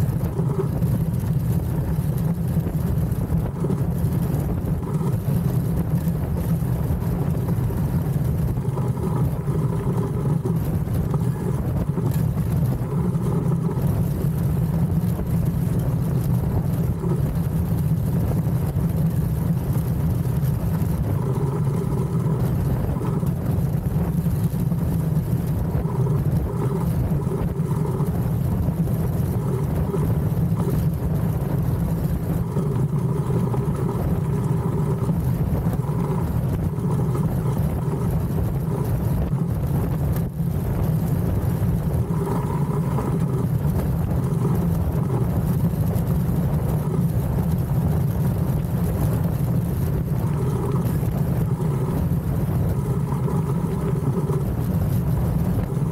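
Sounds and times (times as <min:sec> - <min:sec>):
runners rumbling on ice: 0:00.0 - 0:55.9
rushing wind: 0:00.0 - 0:55.9.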